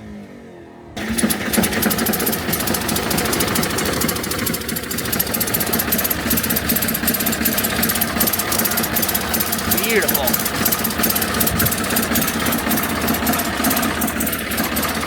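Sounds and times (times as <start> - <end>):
tractor engine idling with clatter: 1.0 - 15.0.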